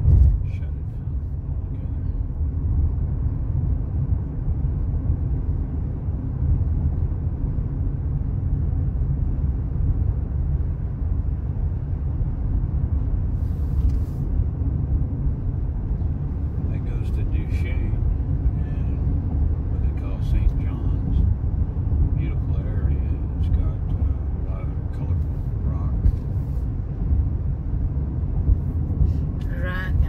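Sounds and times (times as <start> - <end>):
car road rumble inside cabin: 0.0 - 30.0.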